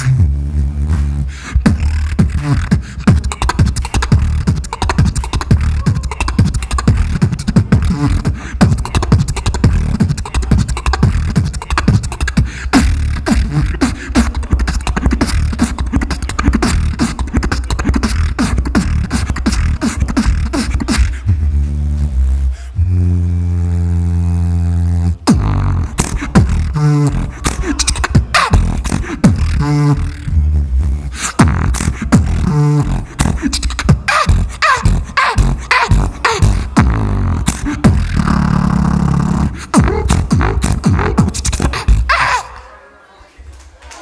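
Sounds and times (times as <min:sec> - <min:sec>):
beatboxing mouth percussion: 0:00.0 - 0:23.3, 0:23.9 - 0:42.6
deep vocal bass: 0:00.0 - 0:42.6.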